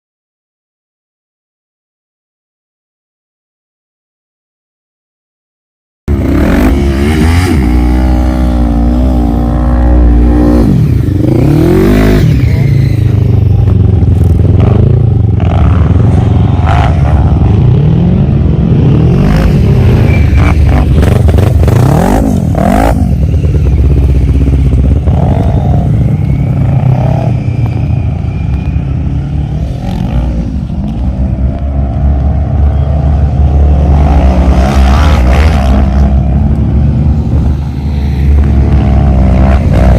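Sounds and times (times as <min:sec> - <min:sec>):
atv engines revving: 0:06.1 - 0:39.9.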